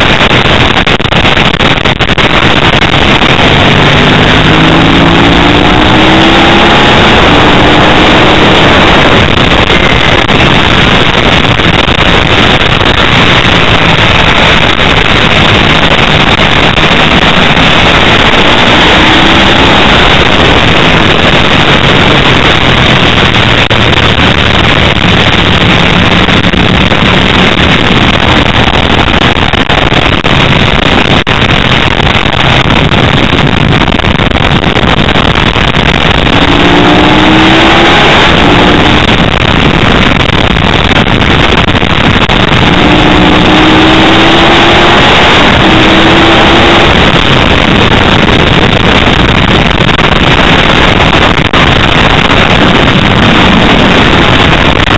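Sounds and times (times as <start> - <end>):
motorcycle engine at racing speed: 0.0 - 54.9
wind rush on microphone: 0.0 - 54.9.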